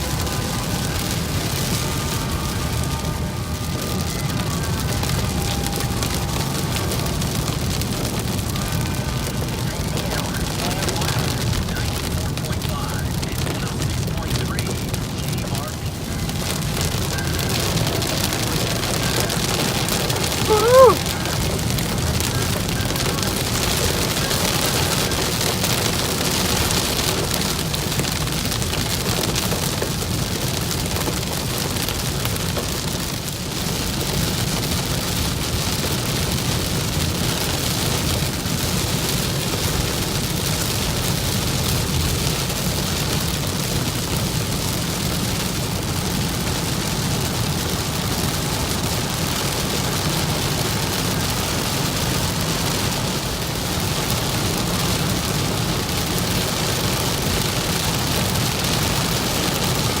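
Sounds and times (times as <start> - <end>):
heavy rain pelting a car: 0.0 - 60.0
road noise: 0.0 - 60.0.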